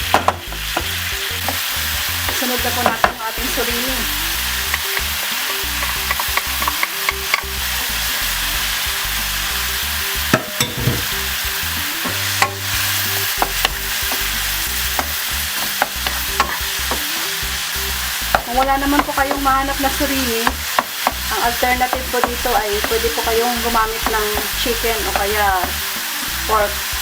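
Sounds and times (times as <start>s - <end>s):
utensil clicking against pan: 0.0s - 8.3s, 12.0s - 27.0s
food sizzling in a frying pan: 0.0s - 27.0s.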